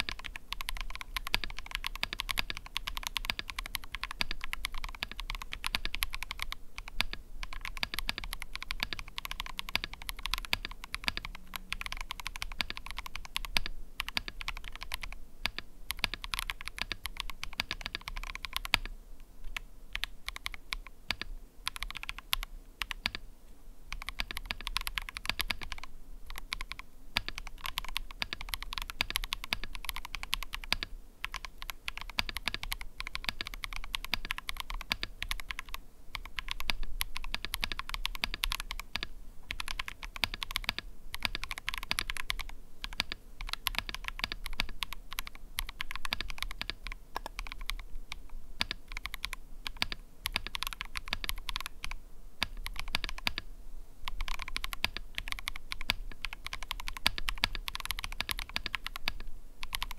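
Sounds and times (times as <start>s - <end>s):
fast typing on mechanical keyboard: 0.0s - 18.9s, 19.9s - 23.2s, 23.9s - 47.8s, 48.6s - 53.5s, 54.1s - 59.9s.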